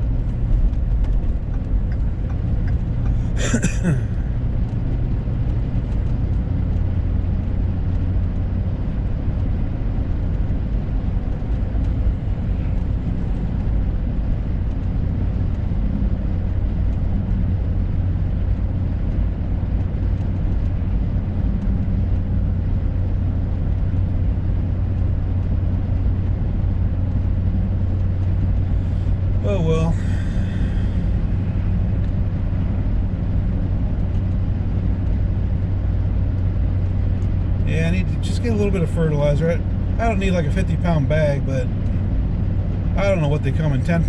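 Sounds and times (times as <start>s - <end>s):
engine and road drone in cab: 0.0s - 44.0s.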